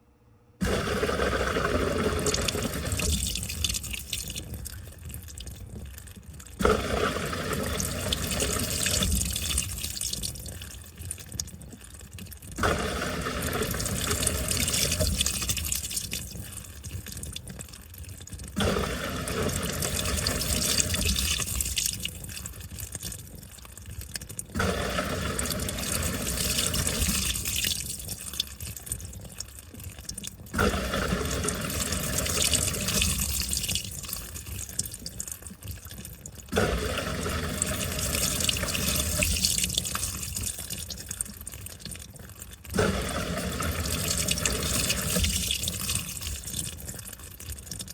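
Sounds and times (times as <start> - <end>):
water sloshing in washing machine: 0.6 - 47.9.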